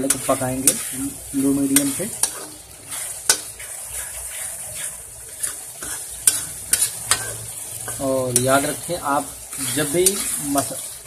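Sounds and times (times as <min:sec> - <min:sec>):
masala sizzling: 0:00.0 - 0:11.0.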